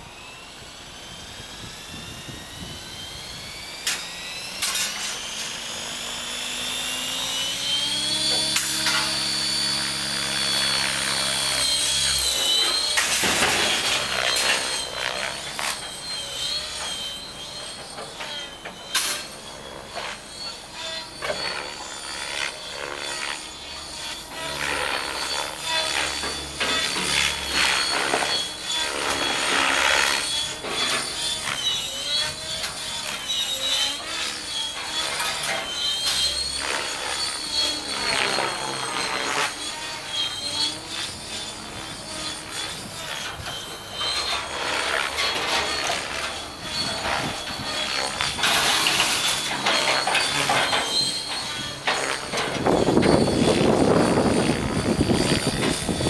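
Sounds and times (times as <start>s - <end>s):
rc helicopter motor and rotor whine: 0.0s - 56.0s.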